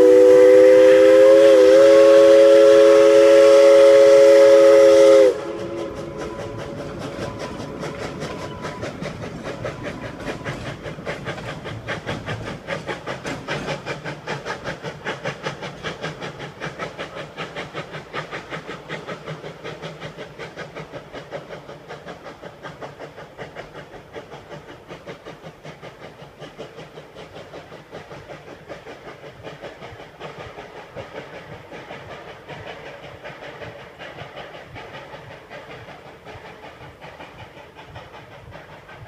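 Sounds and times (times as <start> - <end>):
steam locomotive chuffing: 0.0 - 39.0.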